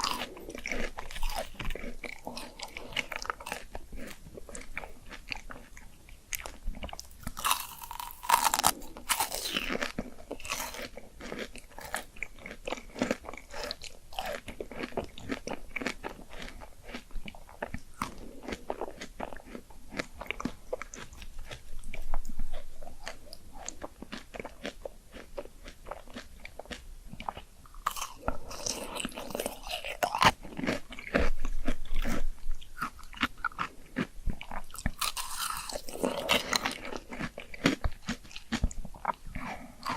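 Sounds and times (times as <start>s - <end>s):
person chewing crisp fruit: 0.0s - 39.9s.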